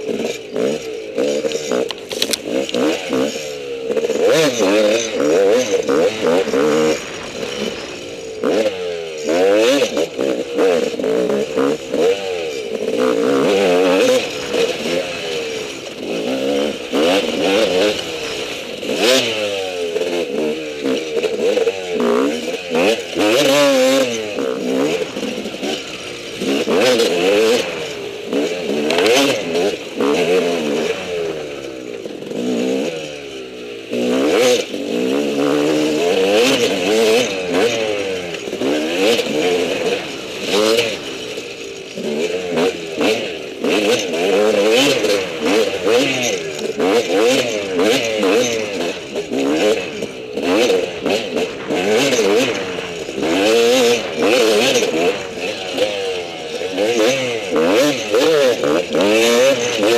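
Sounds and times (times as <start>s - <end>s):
bike clattering over rough trail: 0.0s - 59.9s
dirt bike engine revving: 0.0s - 59.9s.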